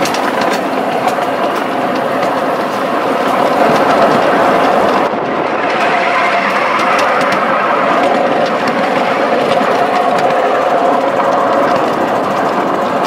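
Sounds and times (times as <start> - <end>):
miniature train wheels rumbling: 0.0 - 13.0.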